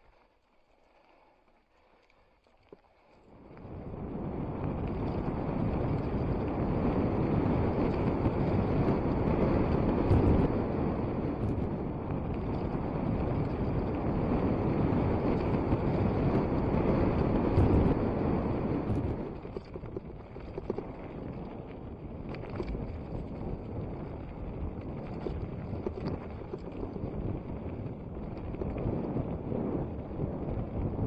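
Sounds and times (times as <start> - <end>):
wind buffeting microphone: 3.3 - 31.0.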